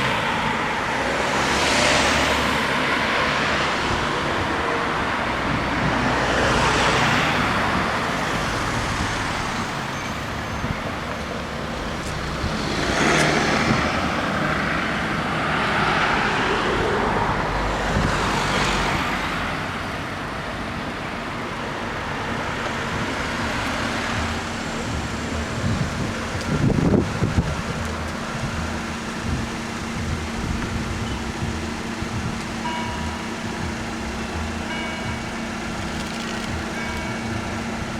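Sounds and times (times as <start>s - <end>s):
background traffic noise: 0.0s - 37.9s
cars driving past: 0.0s - 37.9s.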